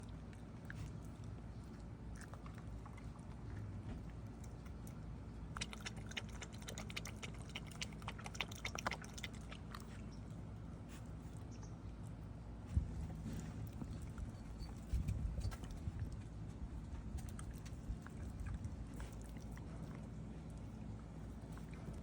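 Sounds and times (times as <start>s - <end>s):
puppies chewing: 0.0s - 22.0s.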